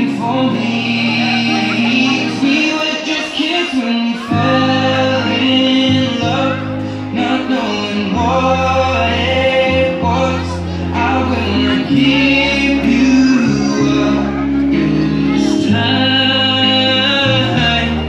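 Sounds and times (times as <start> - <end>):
song with singing: 0.0 - 18.0
sustained bass notes: 0.0 - 18.0.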